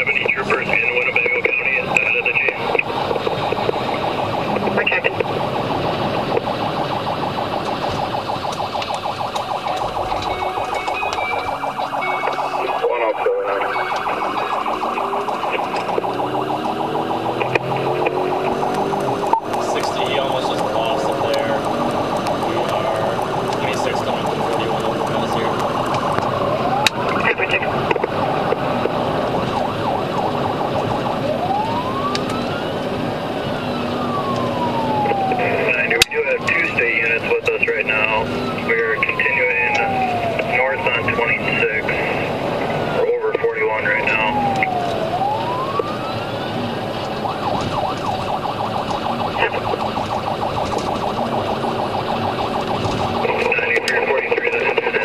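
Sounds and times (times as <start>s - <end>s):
car road and engine noise: 0.0s - 55.0s
police siren warbling: 0.0s - 55.0s.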